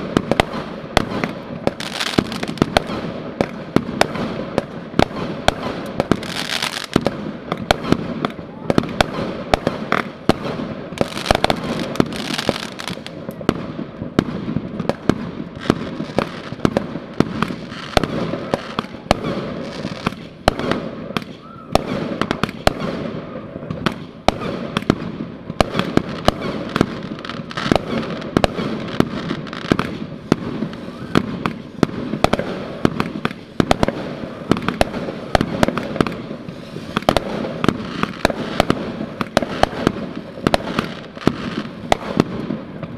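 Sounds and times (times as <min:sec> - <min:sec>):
fireworks banging and popping: 0:00.0 - 0:42.9
fireworks crackling: 0:00.0 - 0:42.9.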